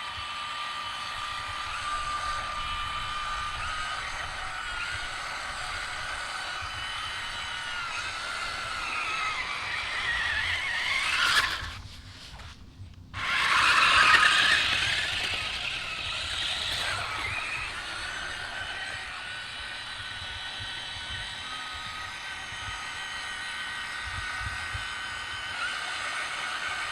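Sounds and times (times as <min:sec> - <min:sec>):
electric motors whining: 0:00.0 - 0:26.9.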